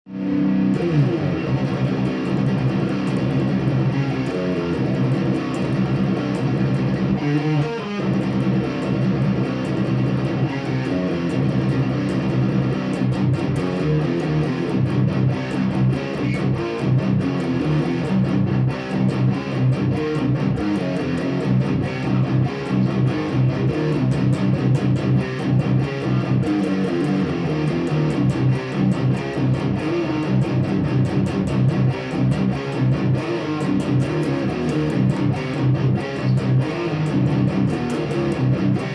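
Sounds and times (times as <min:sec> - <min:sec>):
electric guitar playing: 0:00.1 - 0:38.9.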